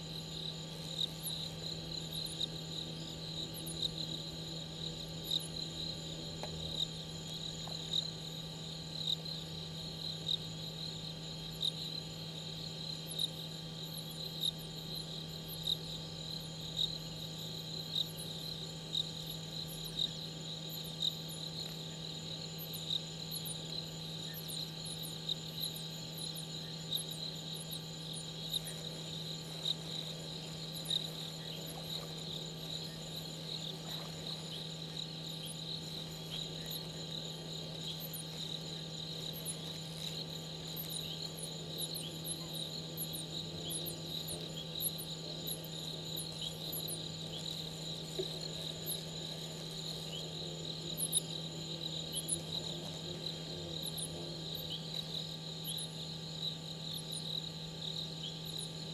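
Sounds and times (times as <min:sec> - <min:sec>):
crickets trilling: 0:00.0 - 0:58.9
louder cricket chirp: 0:00.0 - 0:58.9
steady low hum: 0:00.0 - 0:58.9.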